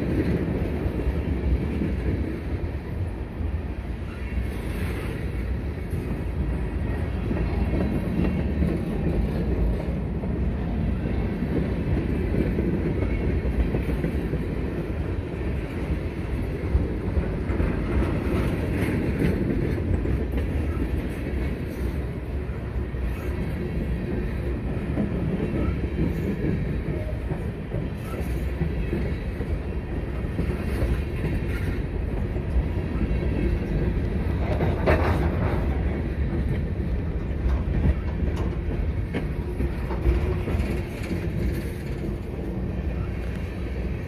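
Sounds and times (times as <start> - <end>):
train wheels rolling on rails: 0.0 - 44.0.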